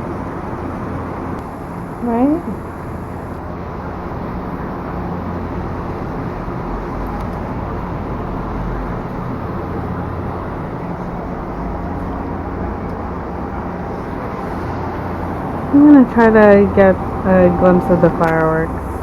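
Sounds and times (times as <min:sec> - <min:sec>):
steady low rumbling: 0:00.0 - 0:19.0.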